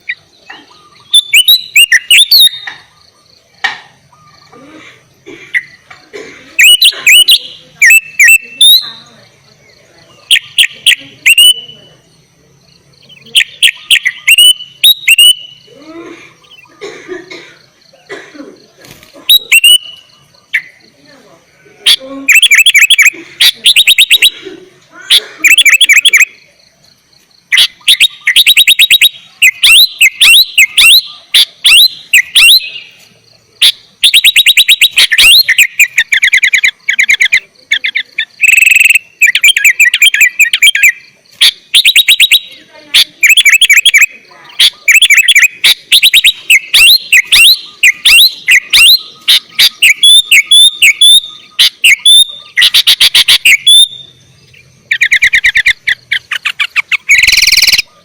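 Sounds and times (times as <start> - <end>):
bird singing chattering notes: 0.0 - 58.0.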